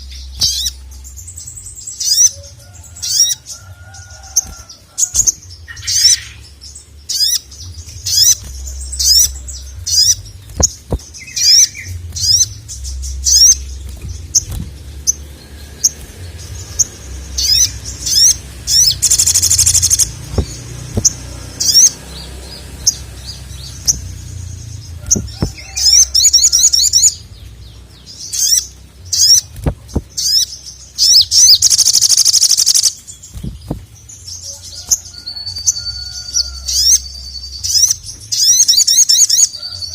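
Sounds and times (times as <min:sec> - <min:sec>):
bird singing high rapid chirps: 0:00.0 - 0:39.9.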